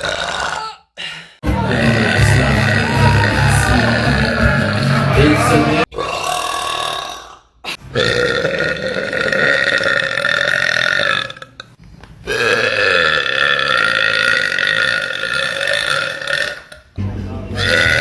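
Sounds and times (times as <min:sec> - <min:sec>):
long drawn-out burps: 0:00.0 - 0:00.9, 0:01.7 - 0:17.0, 0:17.6 - 0:18.0.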